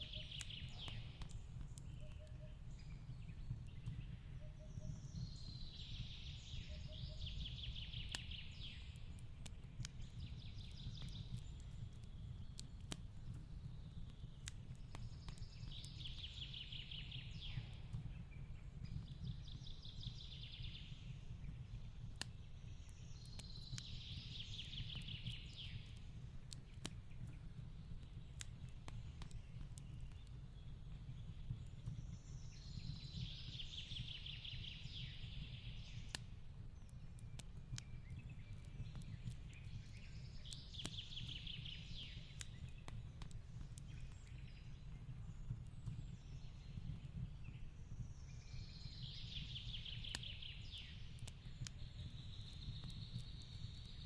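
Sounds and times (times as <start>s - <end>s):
fireplace crackling: 0.3s - 4.2s, 7.3s - 16.5s, 17.1s - 34.0s, 34.8s - 54.0s.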